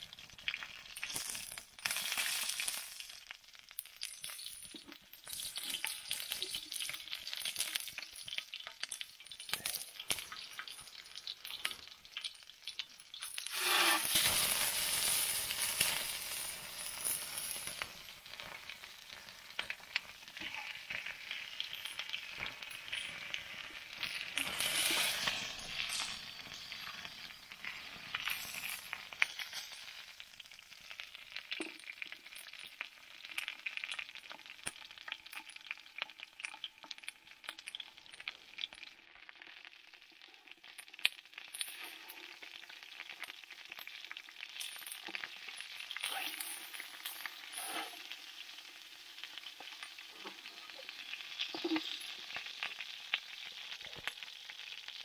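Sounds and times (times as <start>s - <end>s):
chicken sizzling in frying pan: 0.0s - 55.0s.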